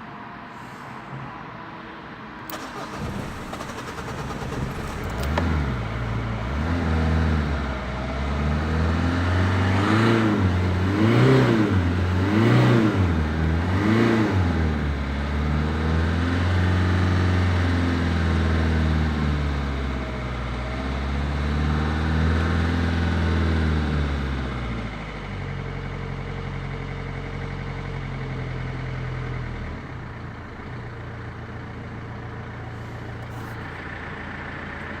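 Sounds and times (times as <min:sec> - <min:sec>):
diesel engine revving and idling: 0:02.5 - 0:35.0.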